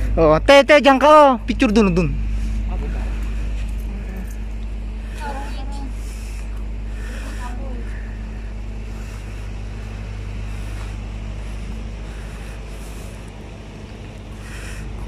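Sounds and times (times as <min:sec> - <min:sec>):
constant low hum: 0:00.0 - 0:15.0
low rumble and hiss: 0:00.0 - 0:15.0.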